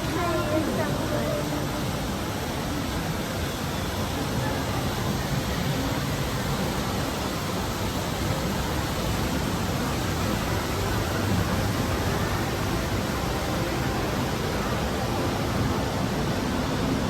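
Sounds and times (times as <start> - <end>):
indoor amusement park din: 0.0 - 17.0.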